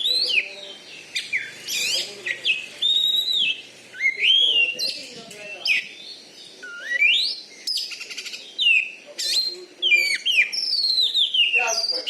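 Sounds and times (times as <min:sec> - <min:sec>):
bird singing: 0:00.0 - 0:12.0.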